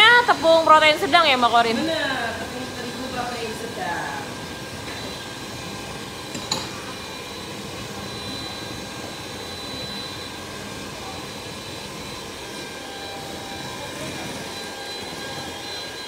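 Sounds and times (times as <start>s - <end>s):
electric stand mixer whisking: 0.0s - 16.0s.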